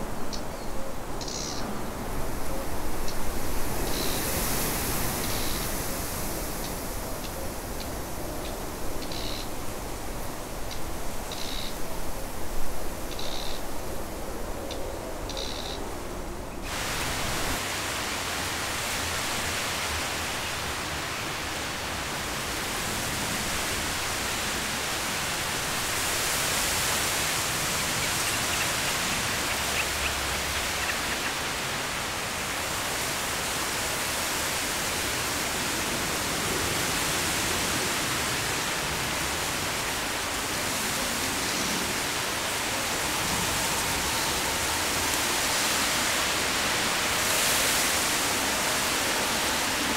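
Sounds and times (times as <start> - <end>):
wind rustling reeds: 0.0 - 49.9.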